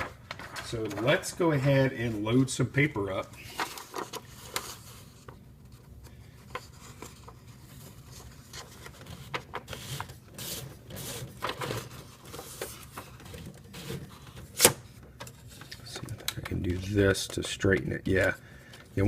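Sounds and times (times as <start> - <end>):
paper rustling in typewriter: 0.0 - 2.4, 3.0 - 5.4, 6.4 - 19.0.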